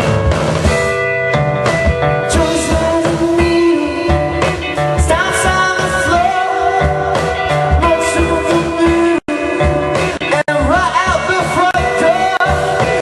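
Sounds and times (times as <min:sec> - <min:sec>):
drum beat: 0:00.0 - 0:13.0
electric guitar playing: 0:00.0 - 0:13.0
person singing: 0:02.2 - 0:13.0.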